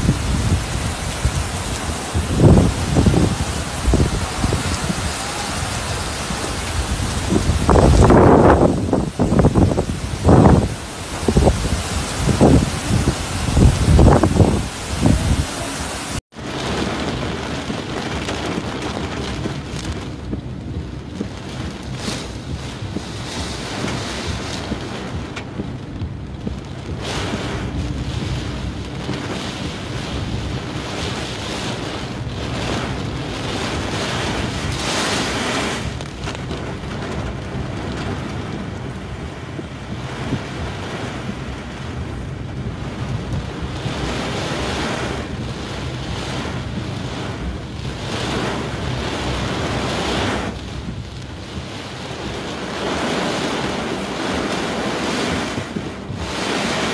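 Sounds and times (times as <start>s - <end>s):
rough surf: 0.0s - 56.9s
wind buffeting microphone: 0.0s - 56.9s.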